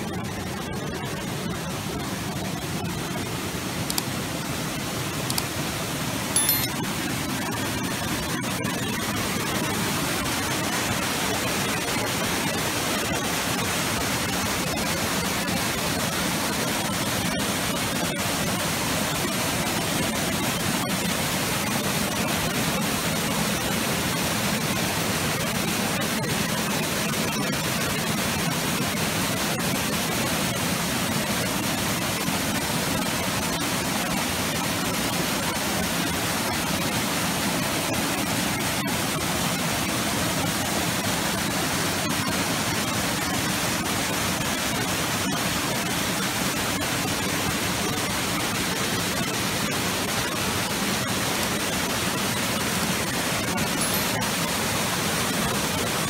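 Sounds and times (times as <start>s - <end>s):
waterfall rushing over rock: 0.0s - 56.0s.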